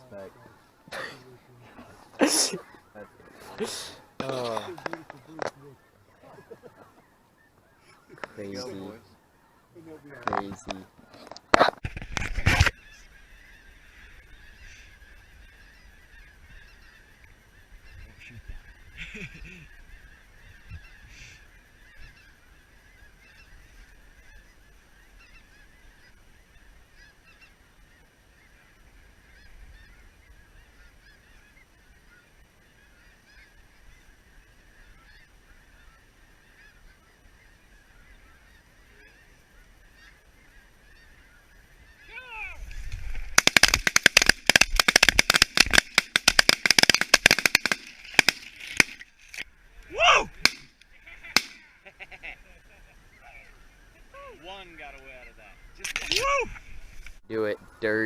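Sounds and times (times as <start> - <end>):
geese honking: 0.0 - 58.0.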